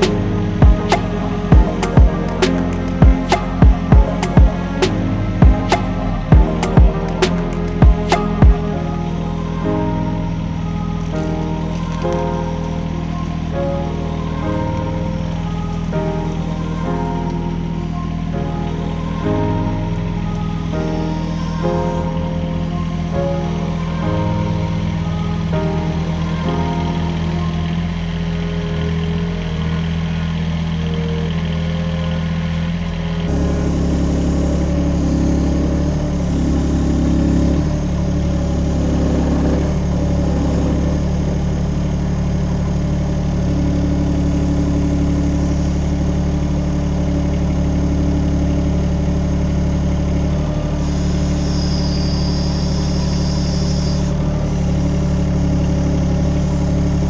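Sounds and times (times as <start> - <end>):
music: 0.0 - 47.6
high whine: 0.0 - 57.0.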